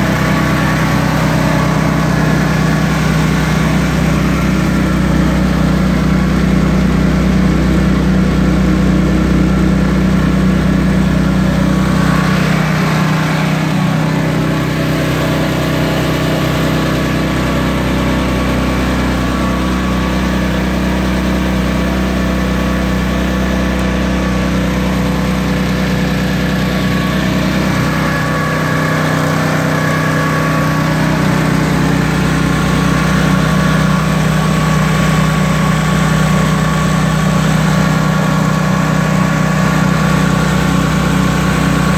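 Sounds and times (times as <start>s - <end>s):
small gasoline engine running: 0.0s - 41.9s.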